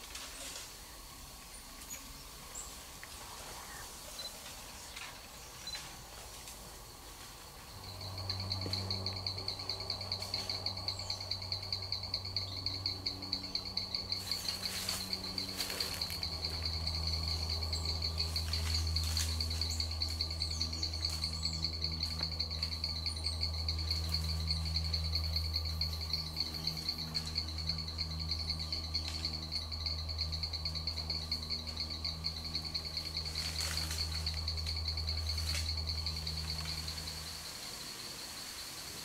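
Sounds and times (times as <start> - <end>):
insects trilling: 0.0 - 39.0
frogs calling: 7.7 - 39.0.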